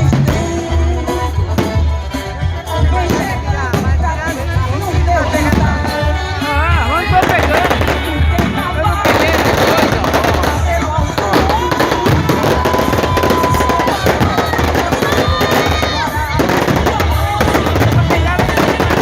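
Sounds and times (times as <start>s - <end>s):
fireworks crackling and popping: 0.0s - 19.0s
loud music with bass: 0.0s - 19.0s.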